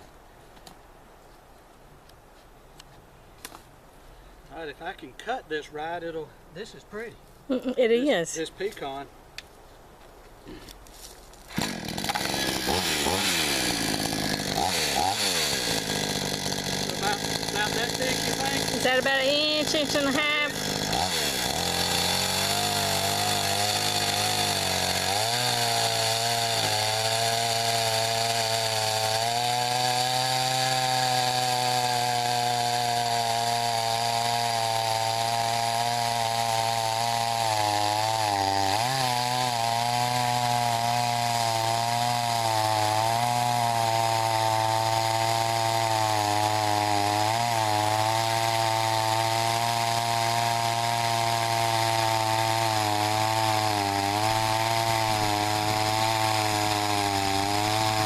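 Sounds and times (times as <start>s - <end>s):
chainsaw cutting through log: 11.4s - 58.0s.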